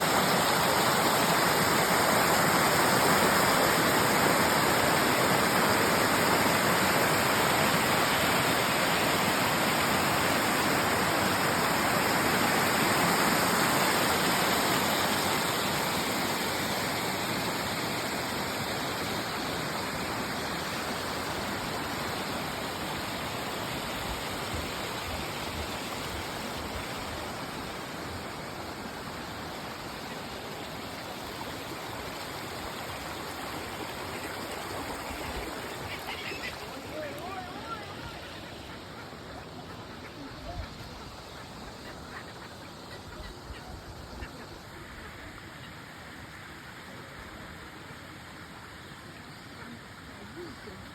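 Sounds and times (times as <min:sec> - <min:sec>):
waterfall rushing into lake: 0:00.0 - 0:50.9.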